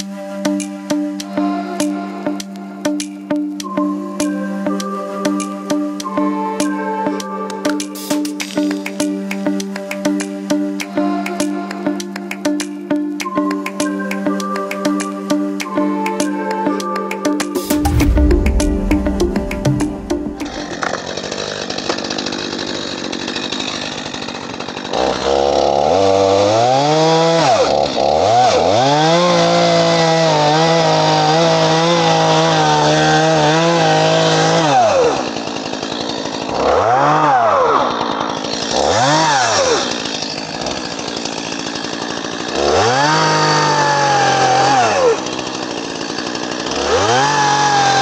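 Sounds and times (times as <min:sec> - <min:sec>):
chainsaw revving: 0:07.6 - 0:16.4, 0:17.2 - 0:48.0.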